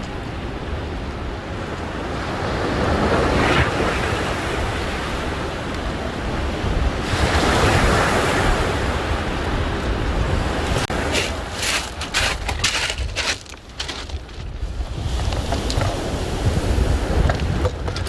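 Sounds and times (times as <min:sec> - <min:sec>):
sea waves washing on shore: 0:00.0 - 0:18.0
wind buffeting microphone: 0:00.0 - 0:18.0.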